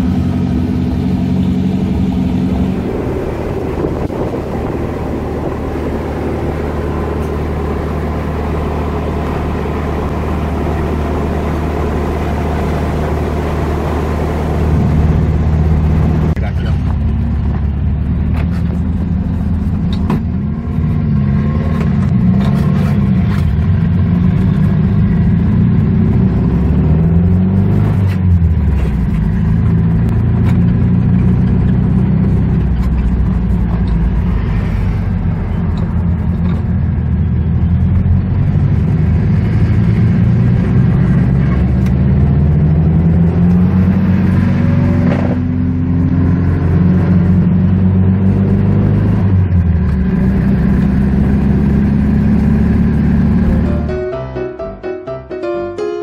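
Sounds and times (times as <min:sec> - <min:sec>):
engine running and revving: 0:00.0 - 0:54.1.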